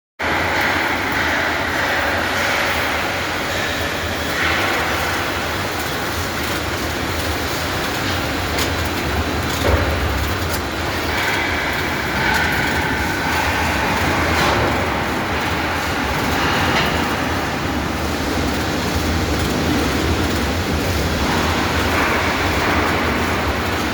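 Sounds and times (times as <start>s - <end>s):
industrial machinery rumble and hiss: 0.2s - 23.9s
machinery whine shifting in pitch: 0.2s - 23.9s.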